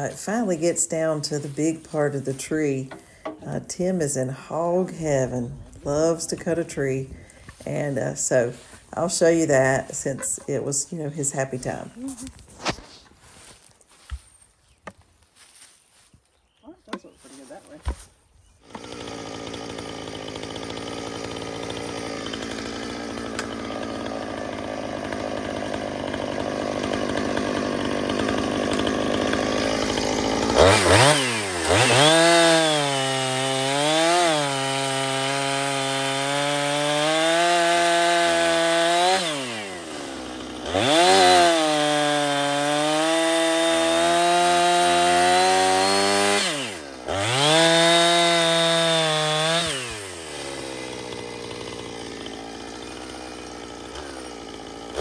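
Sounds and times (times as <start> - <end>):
chainsaw cutting log: 0.0 - 13.2, 16.9 - 55.0.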